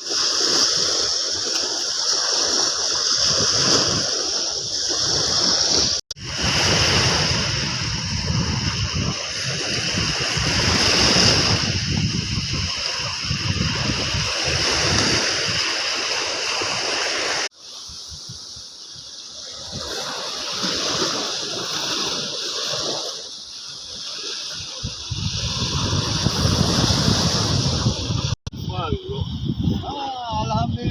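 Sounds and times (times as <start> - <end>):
sea surf washing on beach: 0.0 - 30.9
wind on microphone: 0.0 - 30.9.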